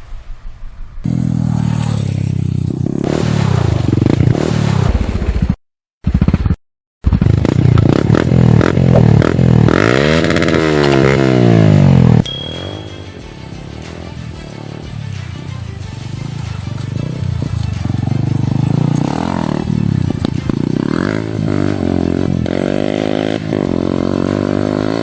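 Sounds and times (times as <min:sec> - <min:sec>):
motorcycle engine revving: 0:01.0 - 0:25.0.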